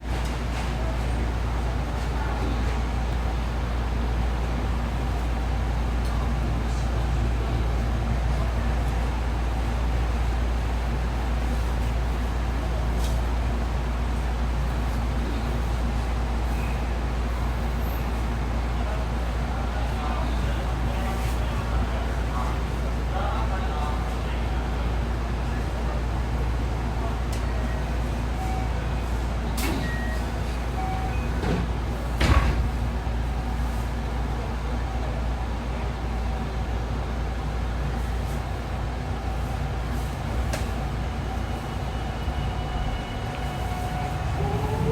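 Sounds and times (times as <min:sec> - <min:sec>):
train car hum and rumble: 0:00.0 - 0:44.9.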